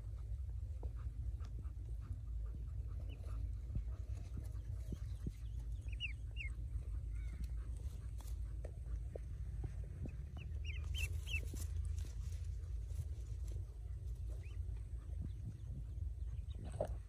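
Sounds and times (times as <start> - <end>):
ducklings peeping: 0.0 - 17.0
steady low rumble: 0.0 - 17.0.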